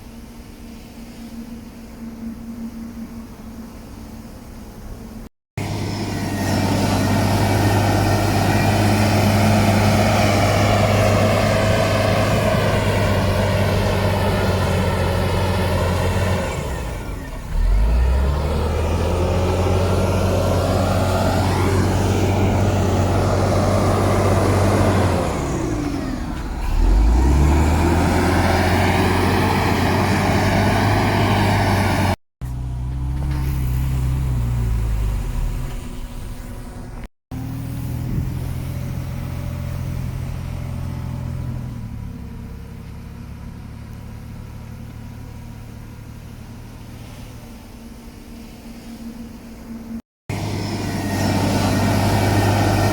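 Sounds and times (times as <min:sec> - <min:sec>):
heavy diesel machinery engine: 0:00.0 - 0:52.9.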